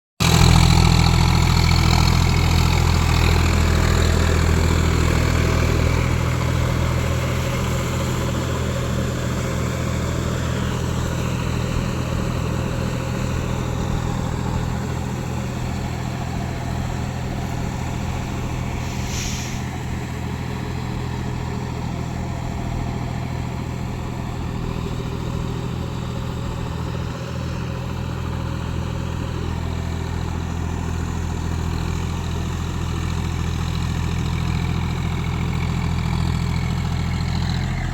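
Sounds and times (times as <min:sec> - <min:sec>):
tractor diesel engine idling: 0:00.2 - 0:37.9.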